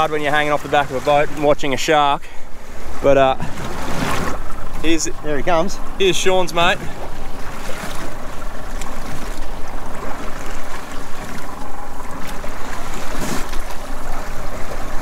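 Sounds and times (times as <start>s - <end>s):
water sloshing against hull: 0.0s - 15.0s
wind rumbling on microphone: 2.5s - 15.0s.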